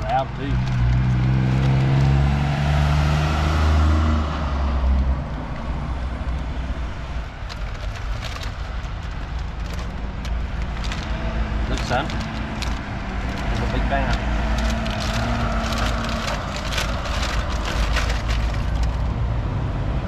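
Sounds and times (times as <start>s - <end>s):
traffic noise: 0.0s - 20.0s.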